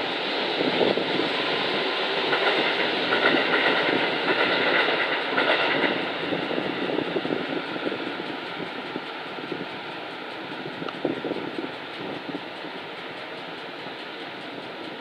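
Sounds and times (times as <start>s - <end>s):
train wheels clacking: 0.0s - 15.0s
train whine: 0.0s - 15.0s.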